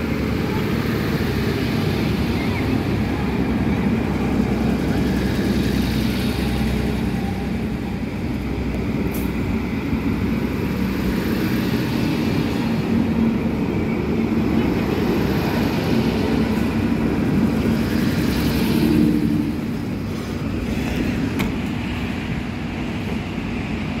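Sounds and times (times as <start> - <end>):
diesel train engine drone: 0.0 - 24.0
train wheels rumbling on rails: 0.0 - 24.0.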